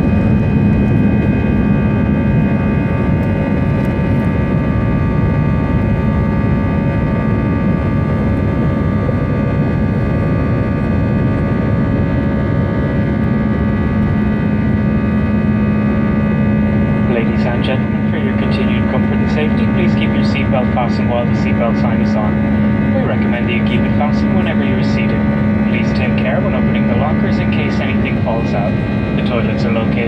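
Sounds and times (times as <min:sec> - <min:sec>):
jet engines at high thrust: 0:00.0 - 0:30.0
whining engine tones: 0:00.0 - 0:30.0.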